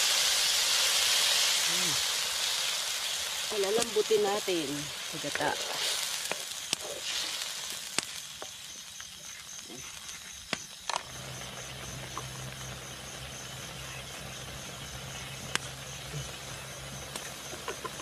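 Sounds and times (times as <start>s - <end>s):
food sizzling in a wok: 0.0s - 18.0s.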